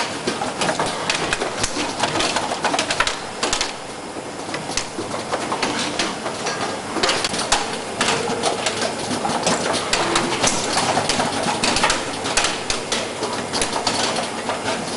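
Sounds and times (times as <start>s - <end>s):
soldering machine clicks and clatter: 0.0s - 14.9s
steady noisy background: 0.0s - 14.9s.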